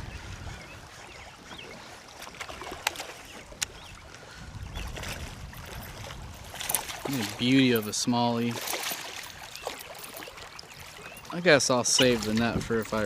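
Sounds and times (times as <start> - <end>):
moving water: 0.0 - 13.0
wind: 0.0 - 13.0.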